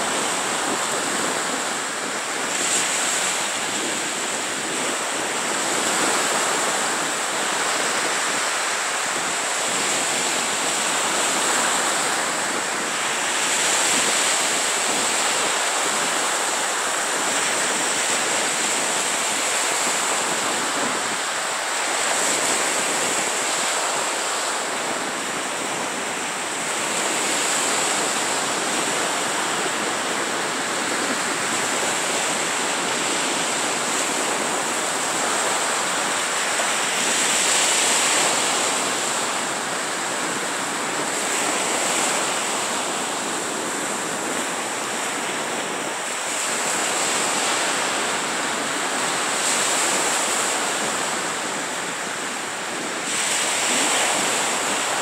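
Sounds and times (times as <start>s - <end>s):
surf washing up a beach: 0.0s - 55.0s.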